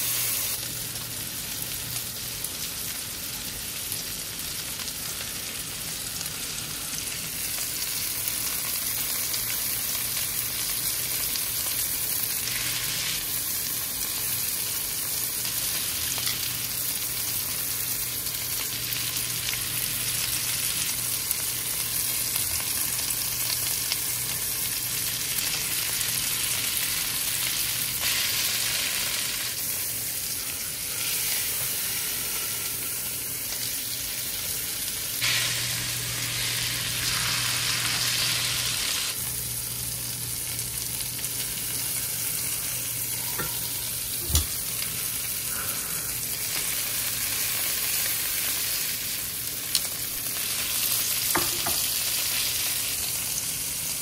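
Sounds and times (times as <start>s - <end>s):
steak sizzling in skillet: 0.0s - 54.0s.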